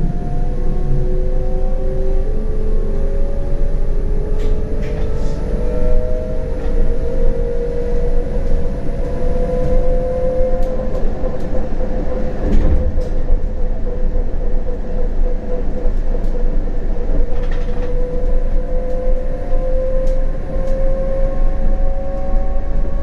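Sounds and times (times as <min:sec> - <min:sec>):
electric tram whine: 0:00.0 - 0:23.0
wheels rumbling on rails: 0:00.0 - 0:23.0.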